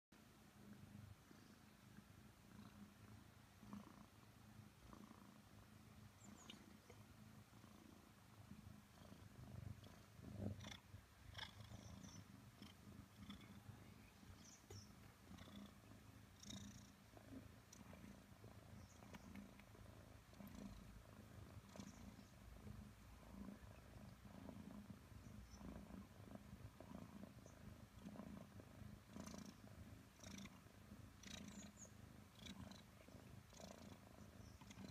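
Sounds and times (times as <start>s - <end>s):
kitten purring: 0.2s - 34.9s.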